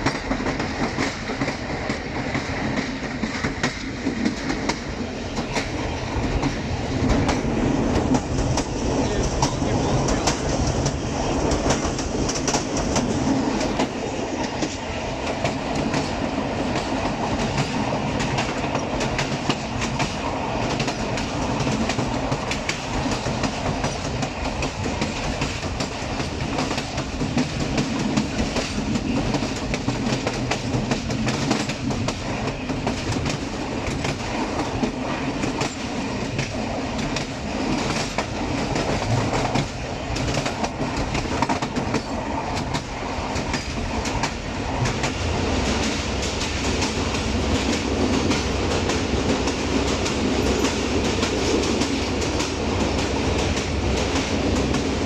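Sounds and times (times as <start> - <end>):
clickety-clack of rail joints: 0.0 - 55.0
train wheels rumbling on rails: 0.0 - 55.0.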